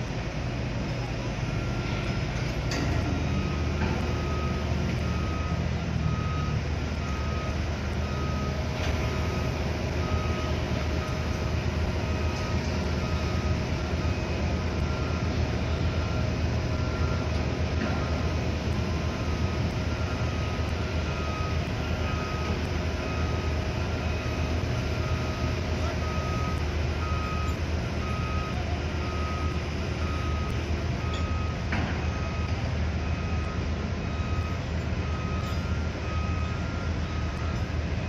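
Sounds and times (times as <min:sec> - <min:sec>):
heavy machinery engines rumbling: 0:00.0 - 0:38.0
reversing alarm beeps: 0:00.4 - 0:38.0.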